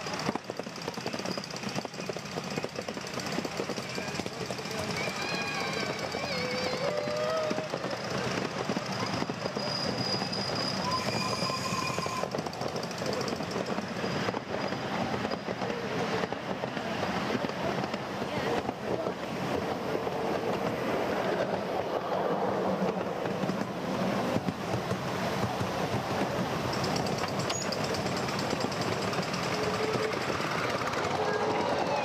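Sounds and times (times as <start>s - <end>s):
wheels clicking over rail joints: 0.0s - 22.2s, 22.8s - 32.0s
small steel wheels rumbling on rails: 0.0s - 32.0s.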